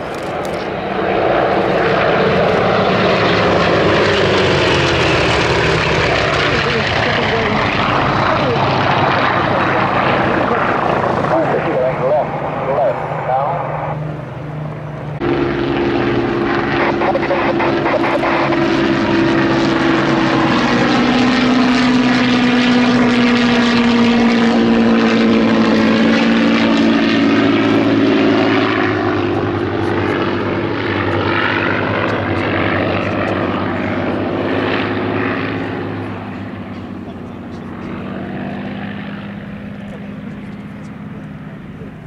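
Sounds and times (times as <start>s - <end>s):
propeller planes flying past: 0.0s - 42.0s.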